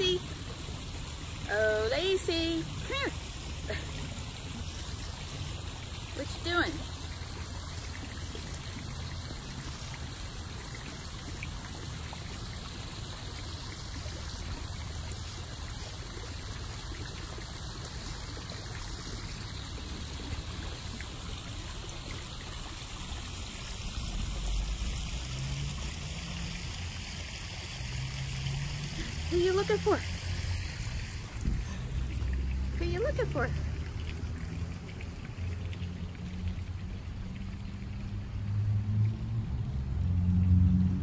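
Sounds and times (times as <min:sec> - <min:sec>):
water trickling and splashing: 0:00.0 - 0:41.0.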